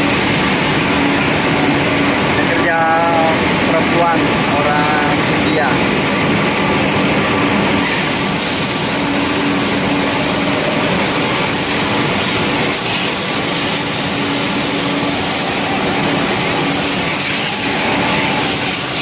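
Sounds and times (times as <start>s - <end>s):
factory machinery running: 0.0s - 19.0s
forklift working: 0.0s - 19.0s.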